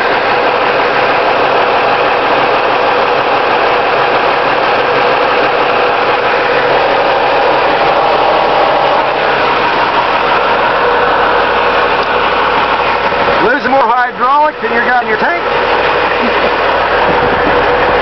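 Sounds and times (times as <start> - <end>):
garbage truck engine running: 0.0 - 18.0.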